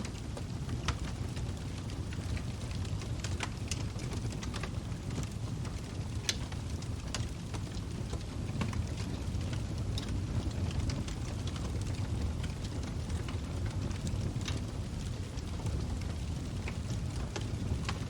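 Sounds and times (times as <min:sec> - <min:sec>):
log fire crackling and popping: 0:00.0 - 0:18.0.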